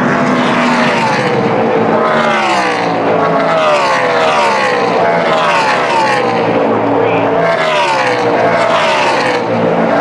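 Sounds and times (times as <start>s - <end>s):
race truck engines passing by: 0.0s - 10.0s.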